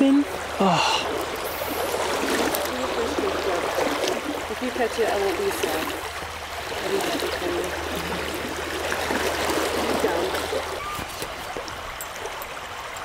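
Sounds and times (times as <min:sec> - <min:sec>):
river water rushing and trickling: 0:00.0 - 0:13.0.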